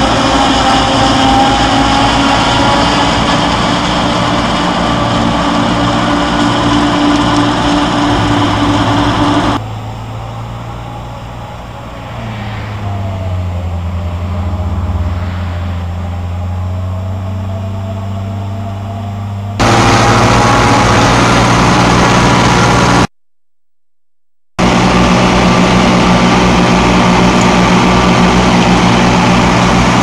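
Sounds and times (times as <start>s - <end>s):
farm machinery engines running: 0.0s - 23.1s, 24.6s - 30.0s.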